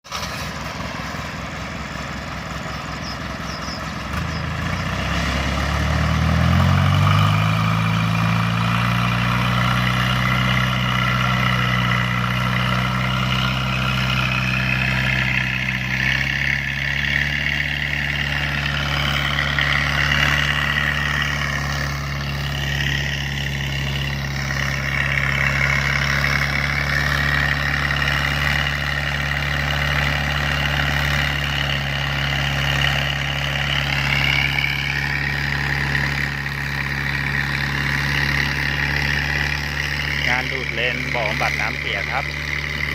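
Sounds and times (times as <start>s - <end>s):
boat engine running: 0.1s - 42.9s.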